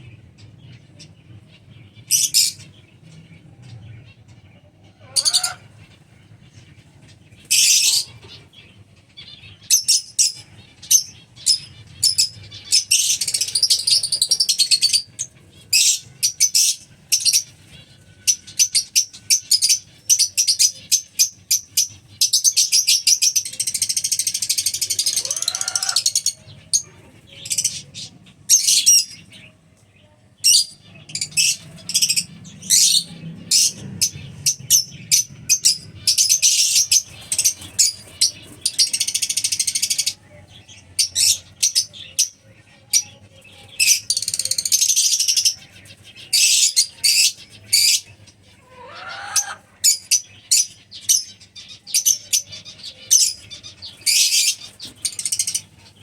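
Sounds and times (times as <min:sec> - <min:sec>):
lovebirds chattering shrilly: 0:00.0 - 0:56.0.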